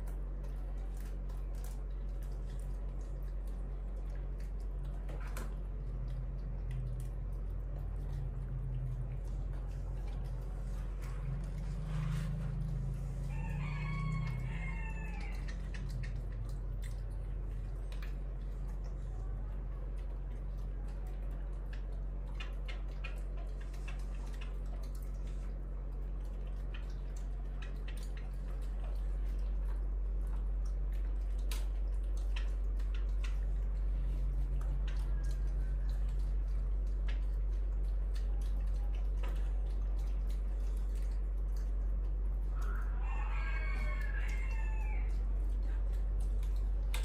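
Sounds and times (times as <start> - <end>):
monkeys eating with wet smacks: 0.0 - 47.0
steady low hum: 0.0 - 47.0.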